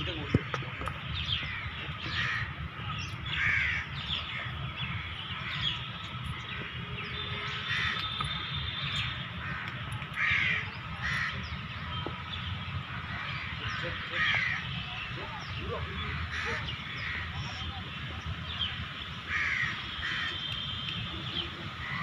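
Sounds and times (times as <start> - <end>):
harsh bird calls: 0.0 - 22.0.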